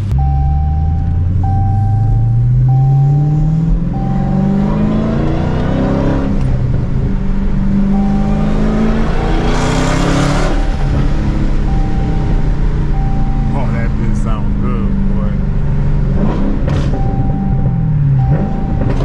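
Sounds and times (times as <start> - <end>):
loud car engine accelerating: 0.0 - 19.0.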